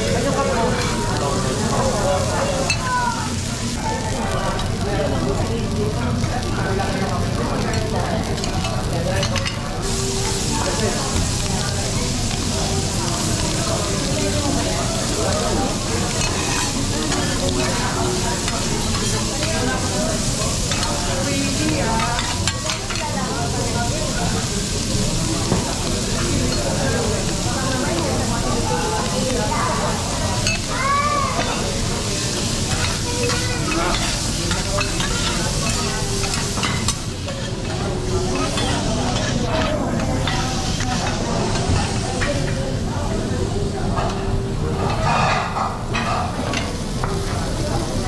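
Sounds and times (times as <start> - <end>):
food sizzling on a griddle: 0.0 - 48.0.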